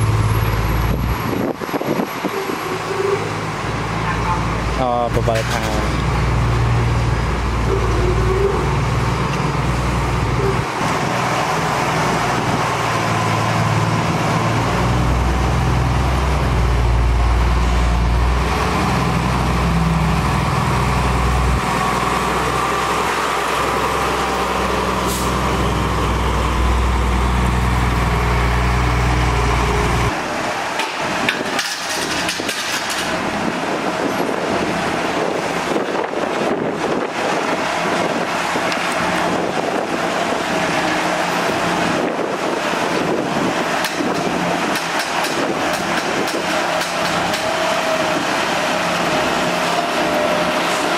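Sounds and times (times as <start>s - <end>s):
diesel machinery engine rumble: 0.0s - 50.9s.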